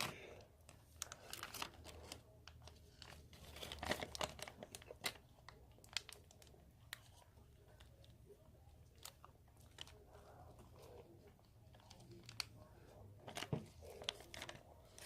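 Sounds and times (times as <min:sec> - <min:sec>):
crinkly rustles: 0:00.0 - 0:15.0.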